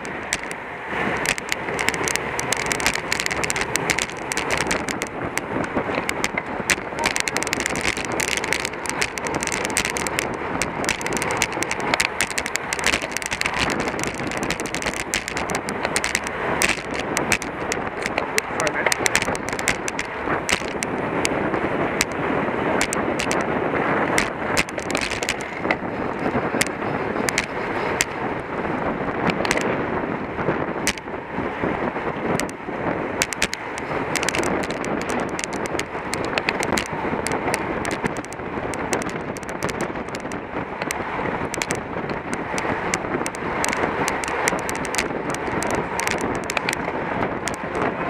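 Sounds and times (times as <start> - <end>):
sharp clicks and rattles: 0.0 - 29.8, 30.6 - 31.2, 32.0 - 48.0
wind rushing on microphone: 0.0 - 48.0.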